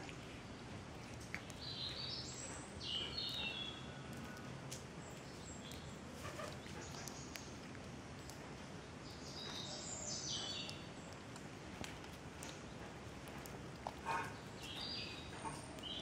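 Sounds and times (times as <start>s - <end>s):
outdoor noise haze: 0.0s - 16.0s
small birds chirping: 0.0s - 16.0s.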